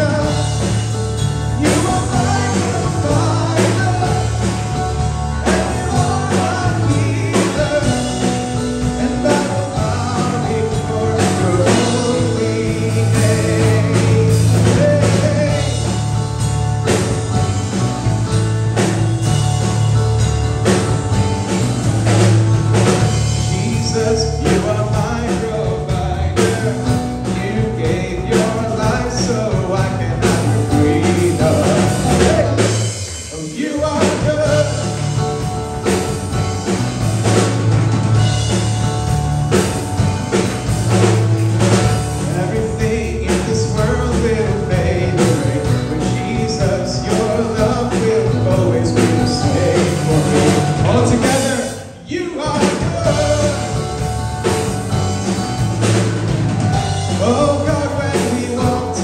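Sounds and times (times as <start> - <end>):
worship song band with drums: 0.0 - 59.0.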